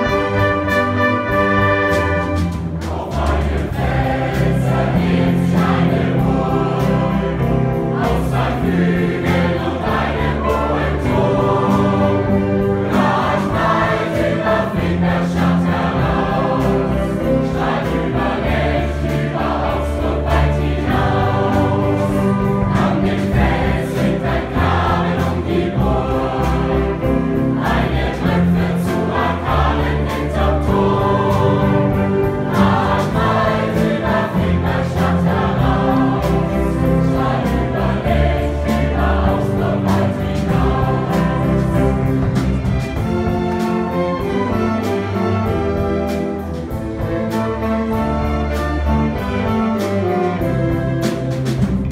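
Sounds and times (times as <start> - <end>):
youth choir singing: 0.0 - 46.0
orchestra and big band: 0.0 - 51.9.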